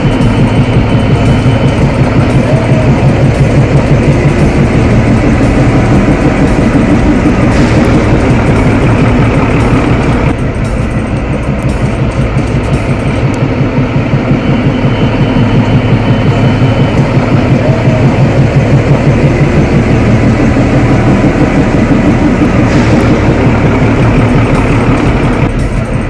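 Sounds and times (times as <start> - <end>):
train coaches rumbling on rails: 0.0 - 26.0.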